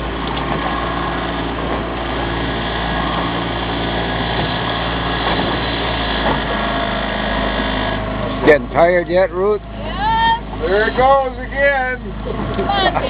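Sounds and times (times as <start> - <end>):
boat engine humming: 0.0 - 13.0
water noise: 0.0 - 13.0.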